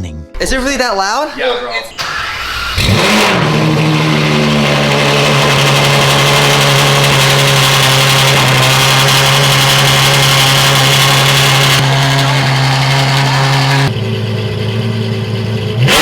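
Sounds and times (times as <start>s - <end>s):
car engine idling loudly: 0.4s - 16.0s.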